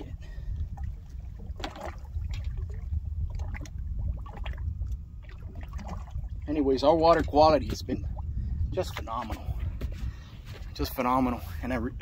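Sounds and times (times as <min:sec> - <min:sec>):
water lapping against a boat: 0:00.0 - 0:12.0
wind rumble on microphone: 0:00.0 - 0:12.0.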